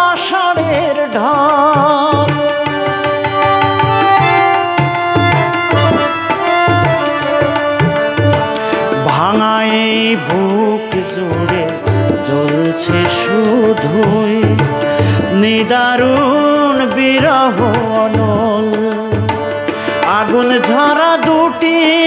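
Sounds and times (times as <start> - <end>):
harmonium melody: 0.0 - 22.0
tabla rhythm: 0.0 - 22.0.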